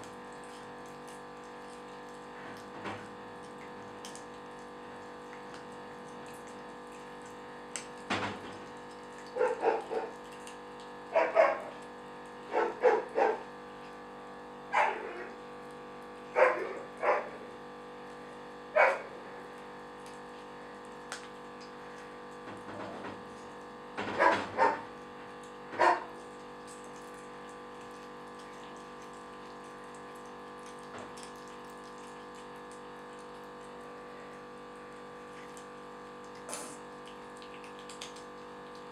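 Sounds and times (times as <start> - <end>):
background hum: 0.0 - 38.9.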